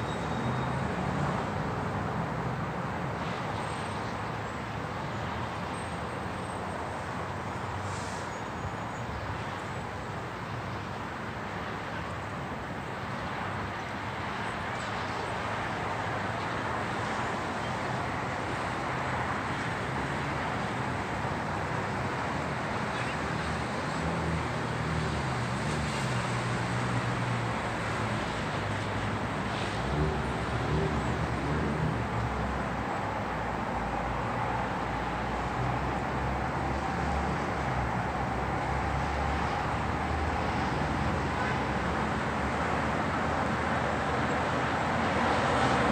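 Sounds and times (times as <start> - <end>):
street traffic noise: 0.0 - 45.9.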